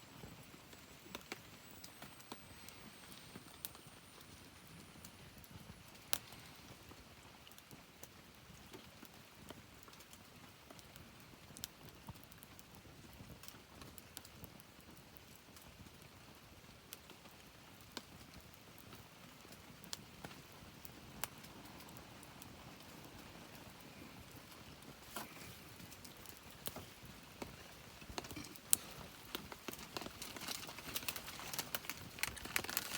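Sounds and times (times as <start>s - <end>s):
faint steady hiss: 0.0s - 32.9s
wood fire crackling: 0.0s - 32.9s.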